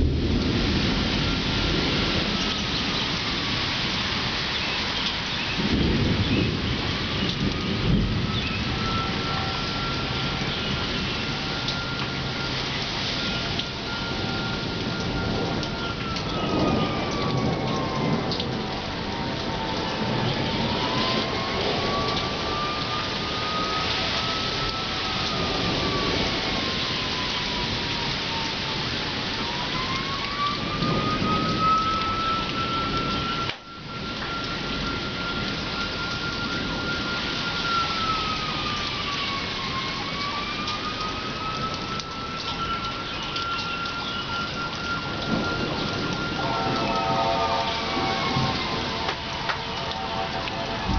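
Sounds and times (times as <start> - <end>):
heavy rain: 0.0 - 50.9
thunder rumbling: 0.0 - 50.9
siren tone: 1.2 - 50.9.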